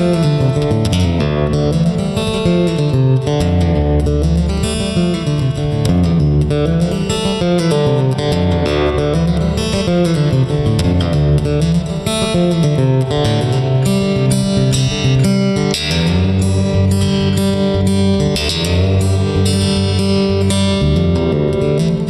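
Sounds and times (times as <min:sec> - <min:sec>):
bass line: 0:00.0 - 0:22.0
plucked guitar music: 0:00.0 - 0:22.0.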